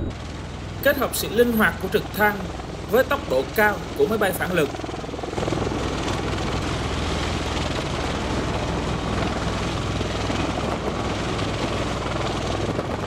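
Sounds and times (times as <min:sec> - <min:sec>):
tiltrotor aircraft rotor beat: 0:00.0 - 0:13.0
turbine engine rush: 0:00.0 - 0:13.0.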